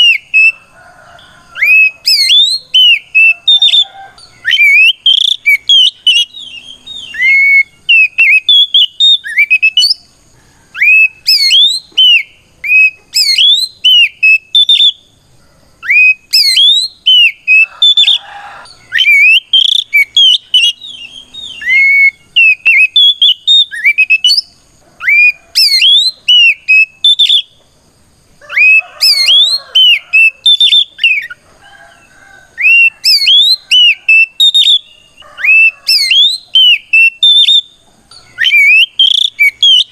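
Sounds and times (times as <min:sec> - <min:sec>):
bird whistled song: 0:00.0 - 0:10.1, 0:10.7 - 0:15.1, 0:15.8 - 0:27.6, 0:28.4 - 0:31.4, 0:32.5 - 0:39.9.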